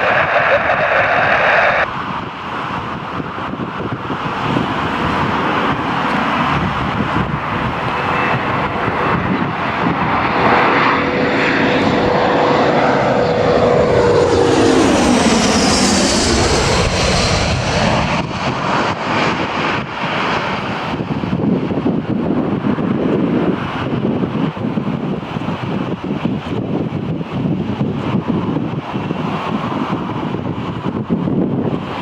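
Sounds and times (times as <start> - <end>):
aircraft engines passing: 0.0 - 32.0.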